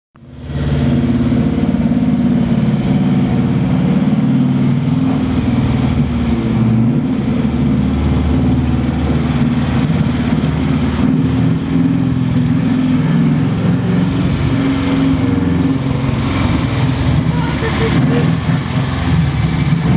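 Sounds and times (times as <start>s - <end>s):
car engine revving off-road: 0.2s - 19.9s.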